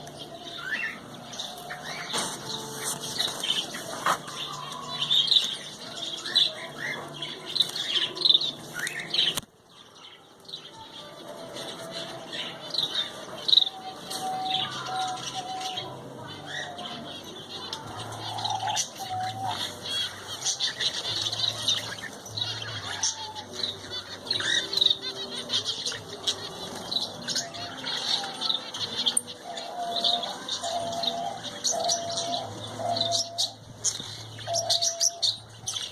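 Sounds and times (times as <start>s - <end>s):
small birds chirping and squawking: 0.0s - 35.9s.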